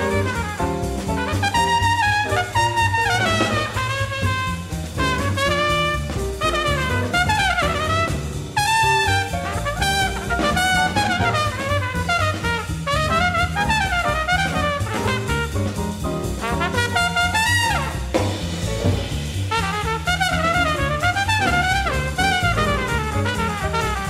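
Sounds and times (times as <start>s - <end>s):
drums: 0.0s - 24.0s
stepping bass line: 0.0s - 24.0s
trumpet bebop solo: 0.0s - 24.0s.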